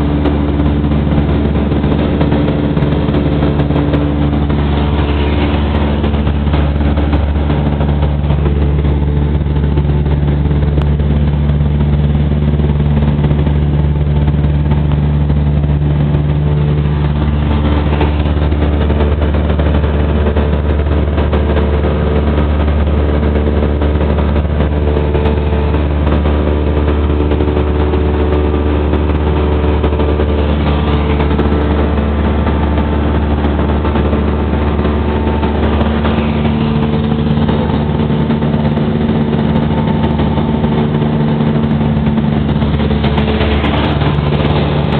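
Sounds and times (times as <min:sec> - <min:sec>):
light aircraft engine droning: 0:00.0 - 0:44.9.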